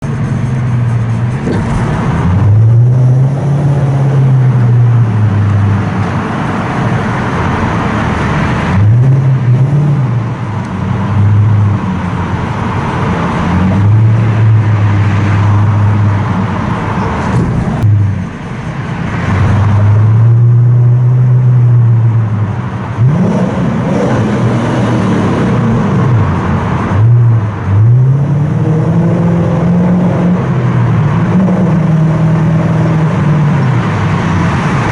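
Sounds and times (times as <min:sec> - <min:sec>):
loud engine revving in tunnel: 0:00.0 - 0:34.9.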